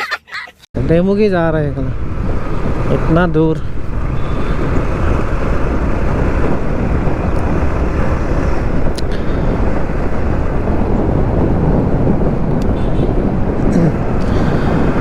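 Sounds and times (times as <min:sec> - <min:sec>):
motorcycle engine running: 0:00.8 - 0:15.0
wind noise on microphone: 0:00.8 - 0:15.0.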